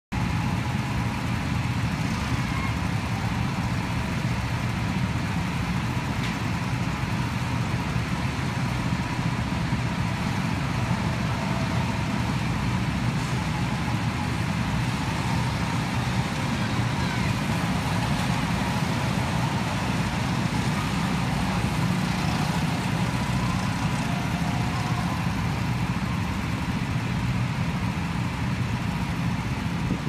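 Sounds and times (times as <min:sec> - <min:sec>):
go-kart engines running: 0:00.2 - 0:30.0.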